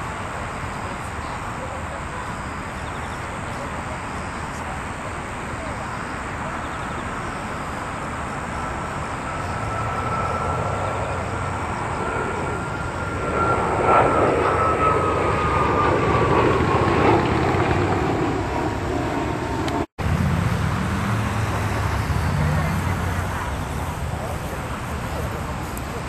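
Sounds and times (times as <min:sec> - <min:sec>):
high jet engine whine: 0:00.0 - 0:26.0
jet flying past: 0:00.0 - 0:26.0.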